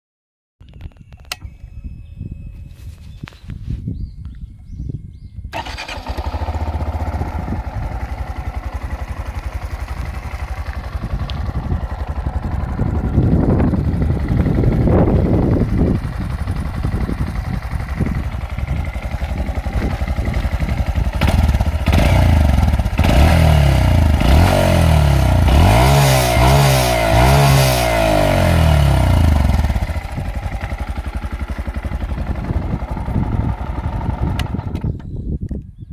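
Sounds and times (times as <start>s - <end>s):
motorcycle engine idling and revving: 4.7s - 35.4s.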